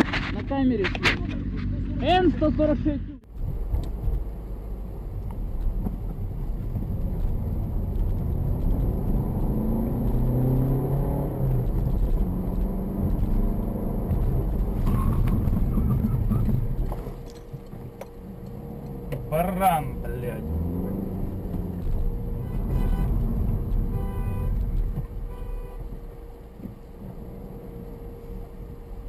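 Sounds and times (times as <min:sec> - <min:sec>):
car engine accelerating: 0:00.0 - 0:29.0
road noise inside car: 0:00.0 - 0:29.0.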